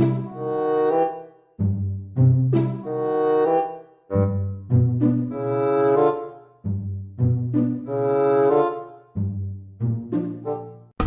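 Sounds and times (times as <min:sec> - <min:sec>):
low instrument notes: 0:00.0 - 0:11.0.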